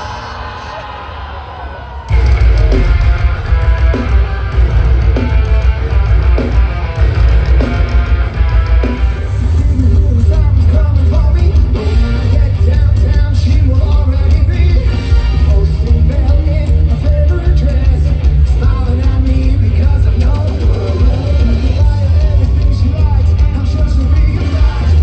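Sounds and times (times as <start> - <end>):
distorted guitars: 0.0 - 25.0
drums: 0.0 - 25.0
heavy bass: 0.0 - 25.0.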